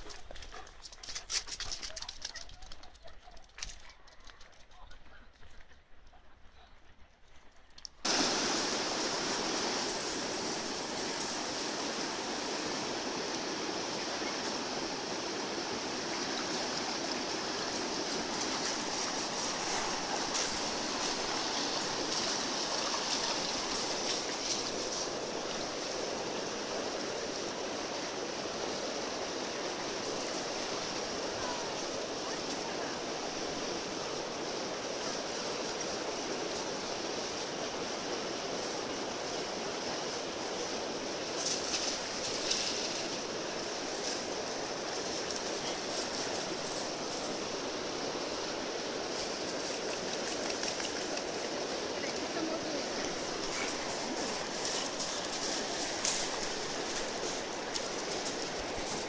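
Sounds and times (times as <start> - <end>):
fast-flowing river rushing: 8.1 - 59.0.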